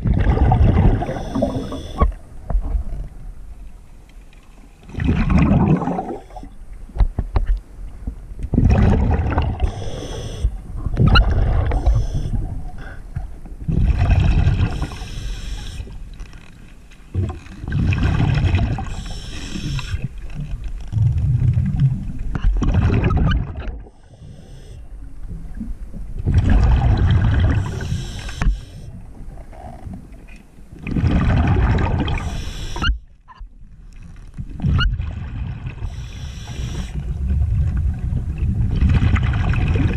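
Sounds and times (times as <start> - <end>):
underwater bubbles gurgling: 0.0 - 3.4, 4.8 - 16.1, 17.1 - 33.0, 33.7 - 39.9.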